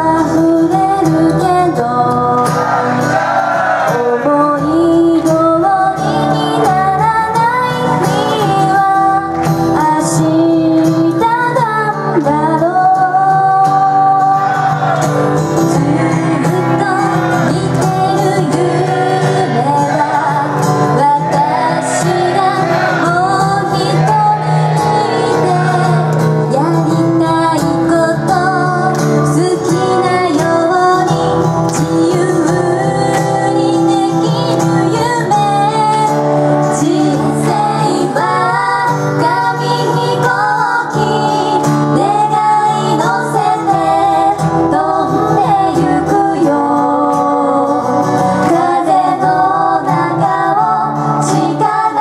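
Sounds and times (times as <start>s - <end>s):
woman singing pop song: 0.0s - 2.9s, 3.9s - 14.8s, 15.4s - 52.0s
strummed acoustic guitar: 0.0s - 52.0s.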